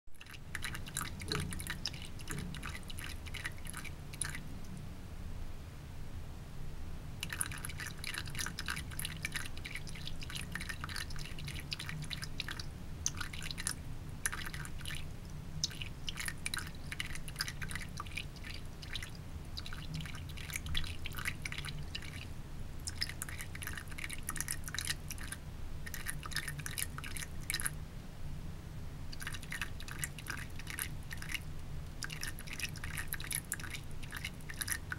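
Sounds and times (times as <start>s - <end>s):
water trickling into sink: 0.2s - 4.4s, 7.2s - 15.0s, 15.6s - 22.2s, 22.9s - 27.7s, 29.2s - 31.4s, 32.0s - 34.9s
steady low hum: 0.2s - 34.9s.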